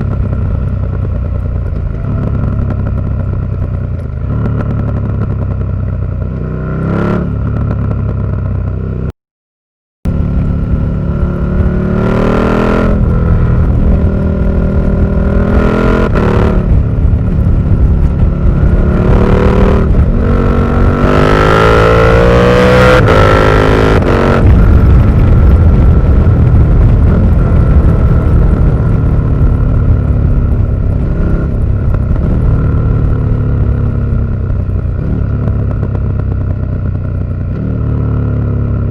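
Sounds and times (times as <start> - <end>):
motorcycle engine revving: 0.0 - 9.1, 10.1 - 38.9.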